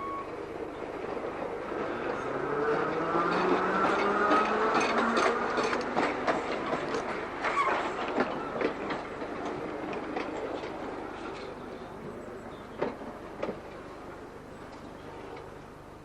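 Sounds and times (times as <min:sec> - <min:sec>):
wheels clicking over rail joints: 0:00.0 - 0:15.8
electric tram running: 0:00.0 - 0:16.0.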